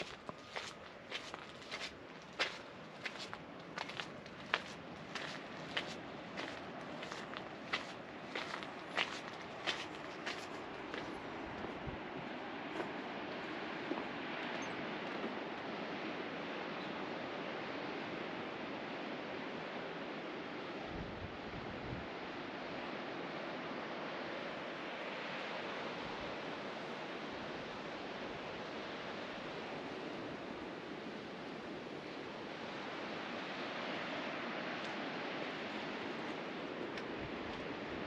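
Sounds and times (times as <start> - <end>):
ocean surf washing: 0.0 - 38.0.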